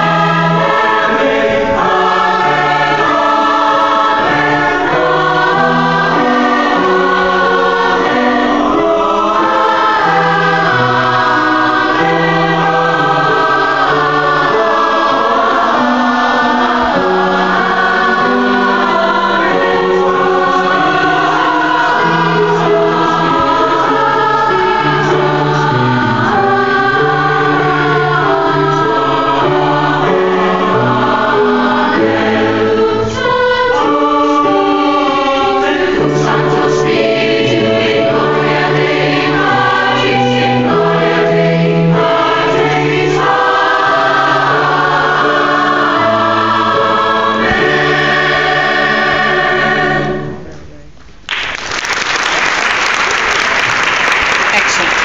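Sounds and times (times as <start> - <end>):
mixed choir singing in parts: 0.0 - 50.5.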